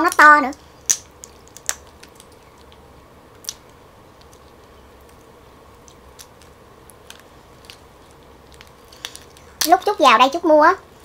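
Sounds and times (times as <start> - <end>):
faint steady hum: 0.0 - 11.0
prawn shell cracking: 0.1 - 9.9.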